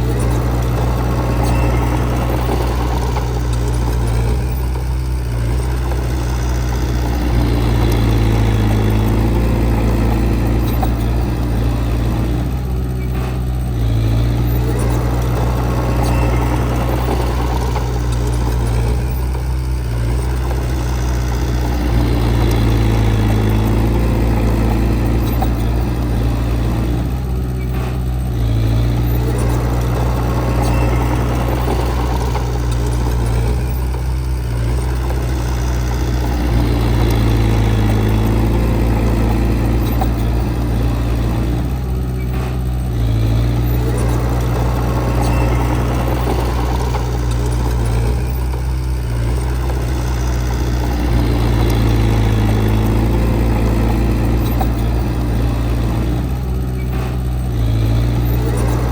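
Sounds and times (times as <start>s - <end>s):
heavy diesel engine working: 0.0s - 58.9s.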